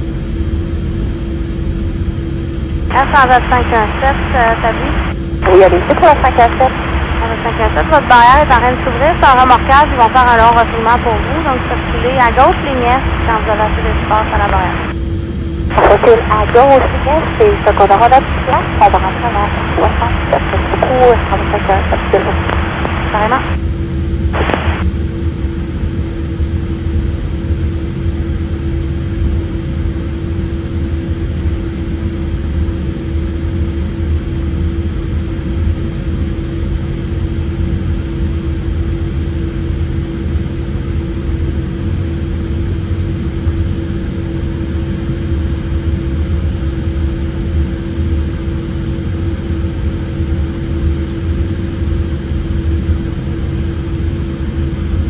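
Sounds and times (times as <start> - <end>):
aircraft engines low rumble: 0.0 - 55.0
constant droning tone: 0.0 - 55.0.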